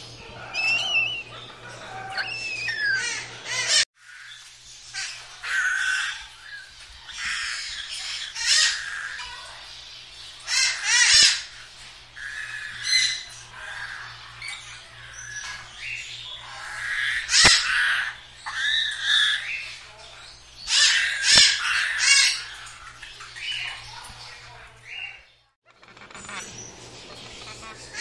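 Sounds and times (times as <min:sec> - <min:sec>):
parrots calling harshly: 0:00.0 - 0:25.1, 0:25.8 - 0:28.0.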